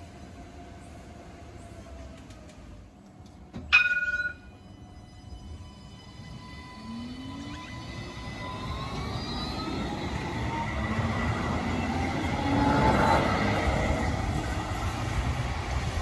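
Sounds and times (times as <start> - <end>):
tram rumbling past: 0.0 - 16.0.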